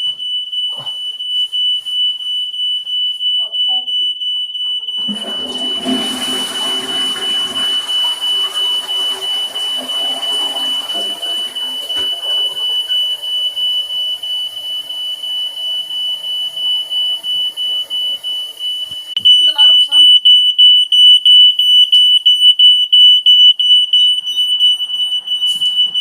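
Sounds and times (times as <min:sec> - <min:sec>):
electronic alarm high-pitched tone: 0:00.0 - 0:26.0.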